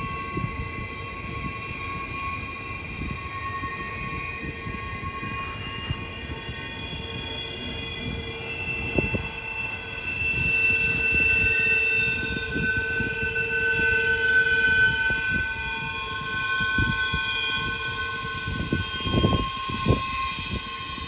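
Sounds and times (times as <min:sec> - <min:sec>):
train wheels squealing on rail: 0:00.0 - 0:21.0.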